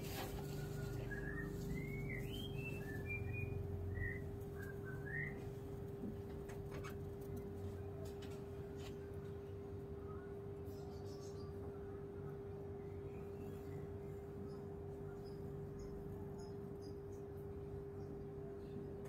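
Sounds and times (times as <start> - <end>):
small bird chirping: 0.0 - 8.1, 9.6 - 19.0
steady low hum: 0.0 - 19.0.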